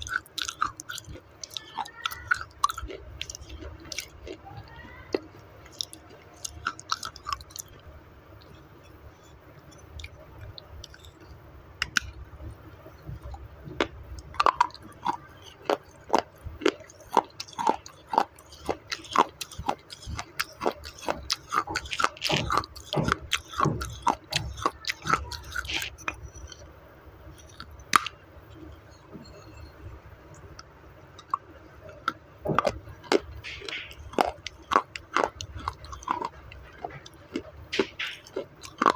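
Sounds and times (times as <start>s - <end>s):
crunchy bread being chewed: 0.0s - 26.7s, 27.3s - 29.7s, 30.3s - 38.9s.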